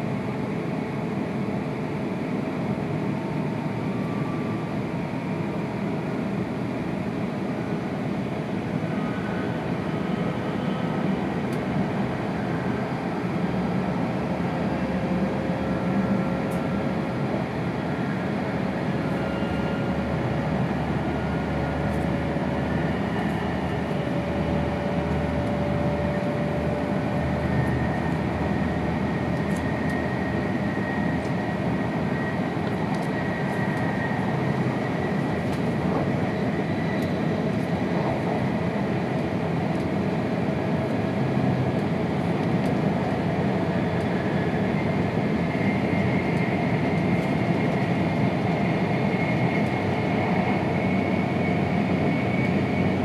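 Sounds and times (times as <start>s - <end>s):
train running and wind noise: 0.0s - 53.0s.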